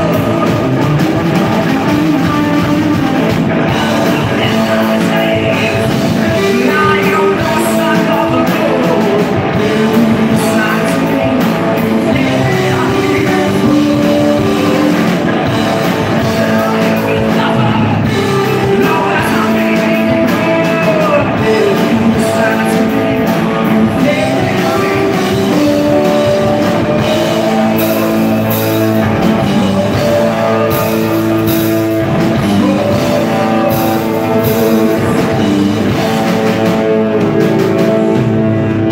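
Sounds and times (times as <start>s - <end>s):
lead singer singing: 0.0s - 38.9s
live rock band playing: 0.0s - 38.9s.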